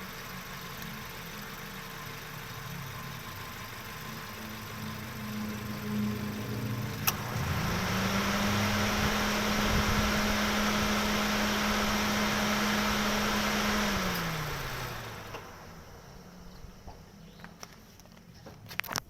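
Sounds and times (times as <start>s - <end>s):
car engine running and shutting off: 0.0s - 19.0s.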